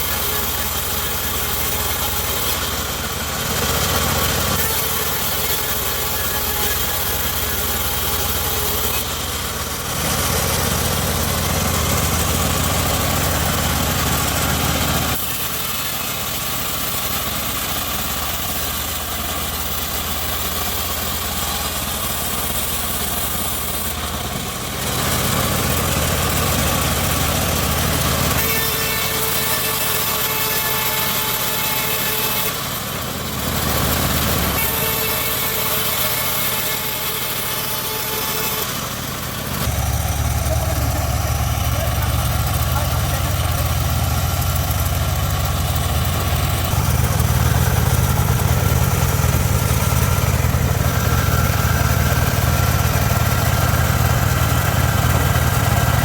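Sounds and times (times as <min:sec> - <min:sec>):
bandsaw sawmill sawing wood: 0:00.0 - 0:56.0.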